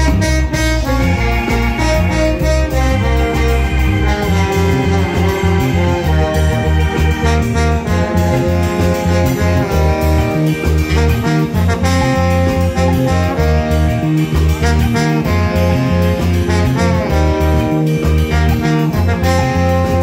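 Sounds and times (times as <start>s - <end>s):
bass line: 0.0s - 20.0s
drums: 0.0s - 20.0s
electric guitar: 0.0s - 20.0s
keytar: 0.0s - 20.0s
saxophone: 0.0s - 20.0s
trombone: 0.0s - 20.0s.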